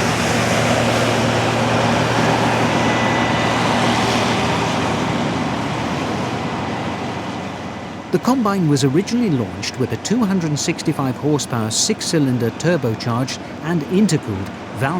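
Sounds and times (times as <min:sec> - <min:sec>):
combine harvester working: 0:00.0 - 0:14.9
engine humming steadily: 0:00.0 - 0:14.9.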